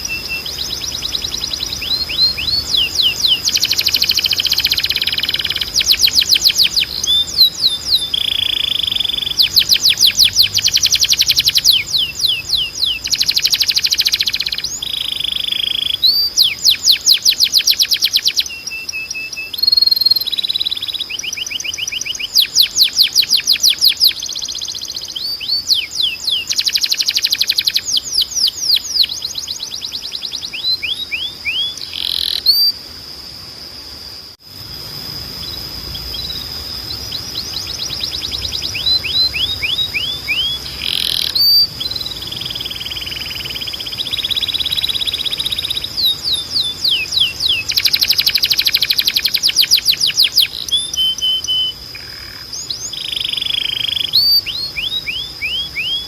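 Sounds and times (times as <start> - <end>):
canary singing trills: 0.0 - 32.9, 34.6 - 56.0
thin steady high tone: 0.0 - 56.0.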